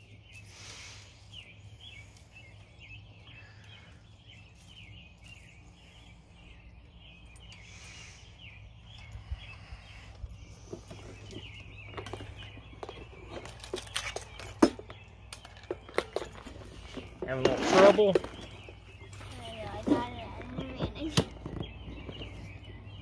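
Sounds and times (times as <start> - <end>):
faint bird chirping: 0.0 - 23.0.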